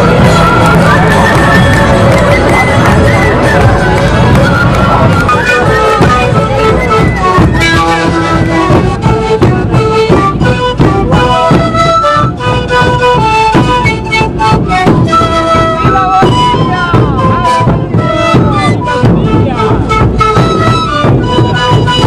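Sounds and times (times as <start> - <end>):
steady drum beat: 0.0 - 22.0
wind instruments playing melodies: 0.0 - 22.0.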